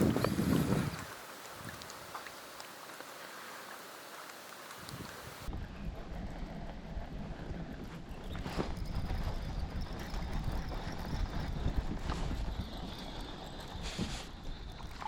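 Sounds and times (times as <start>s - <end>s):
wind buffeting microphone: 0.0s - 2.6s, 4.8s - 15.0s.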